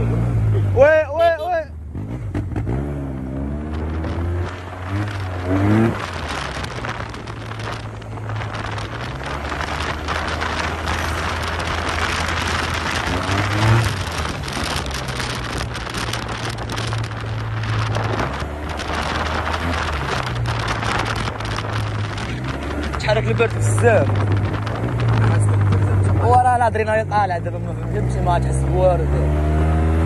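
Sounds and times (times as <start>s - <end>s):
wind noise on microphone: 1.3s - 30.0s.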